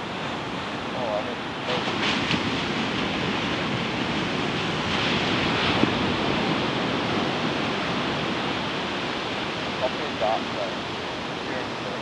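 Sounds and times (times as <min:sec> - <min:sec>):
ocean surf washing on beach: 0:00.0 - 0:12.0.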